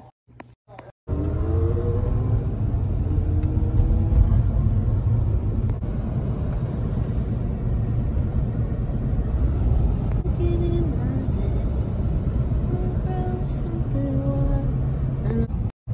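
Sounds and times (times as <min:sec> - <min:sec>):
car cabin road and engine rumble: 0:00.0 - 0:15.9.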